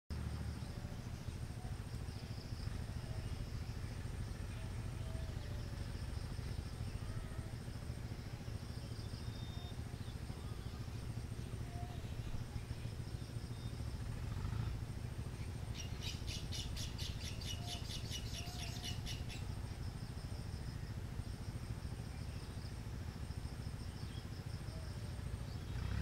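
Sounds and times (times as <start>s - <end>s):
steady low rumble: 0.1s - 26.0s.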